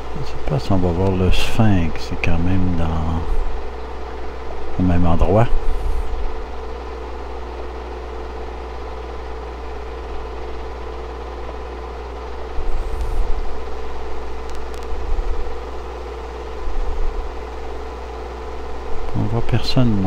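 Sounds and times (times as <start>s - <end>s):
film projector running: 0.0s - 20.0s.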